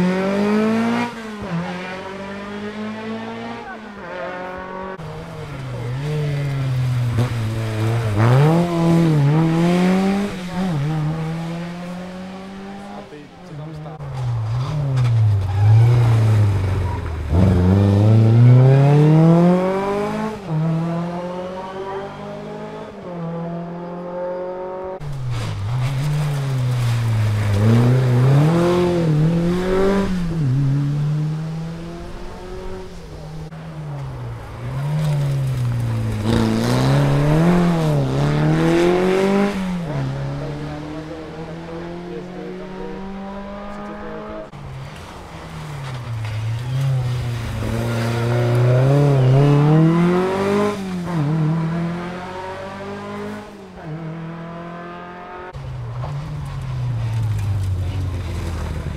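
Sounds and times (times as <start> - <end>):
rally car engine revving: 0.0 - 58.9.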